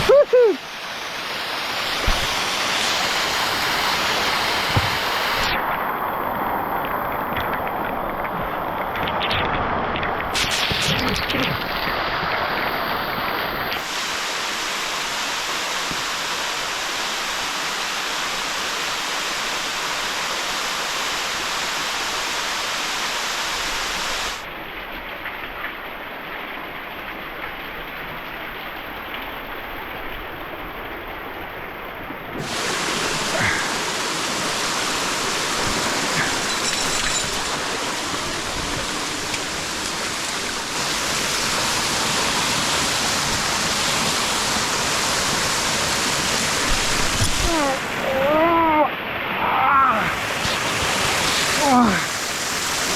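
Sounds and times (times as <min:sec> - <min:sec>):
waterfall rushing: 0:00.0 - 0:24.7, 0:25.8 - 0:52.9.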